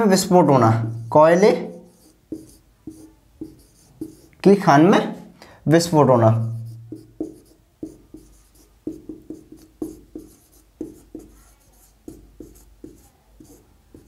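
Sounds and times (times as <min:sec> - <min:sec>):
marker pen writing on whiteboard: 0:00.0 - 0:14.0.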